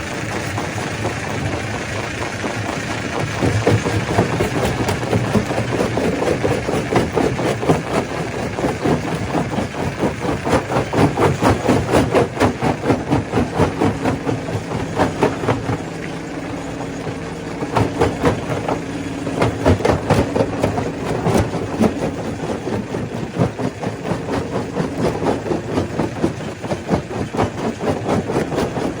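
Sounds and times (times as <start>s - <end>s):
stone crusher humming: 0.0s - 29.0s.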